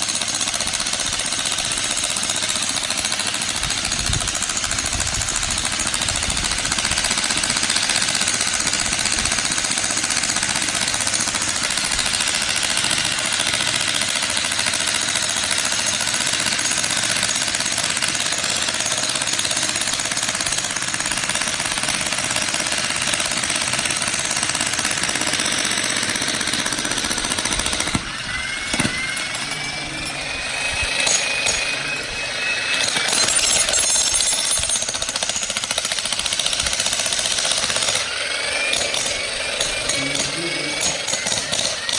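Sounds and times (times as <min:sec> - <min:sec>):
jackhammer hammering: 0:00.0 - 0:41.9.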